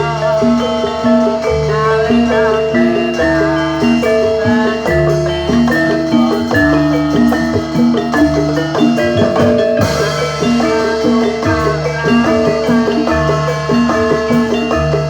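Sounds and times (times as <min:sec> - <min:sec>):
gamelan music: 0:00.0 - 0:15.0
low drum beats: 0:00.0 - 0:15.0
metal keyed instruments ringing: 0:00.0 - 0:15.0.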